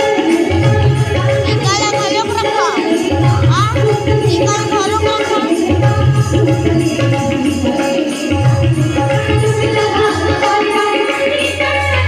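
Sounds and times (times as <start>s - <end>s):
tabla drumming: 0.0s - 12.0s.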